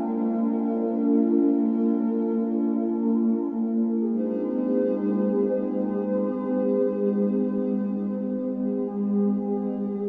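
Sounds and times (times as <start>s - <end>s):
soft synthesizer chords: 0.0s - 10.0s.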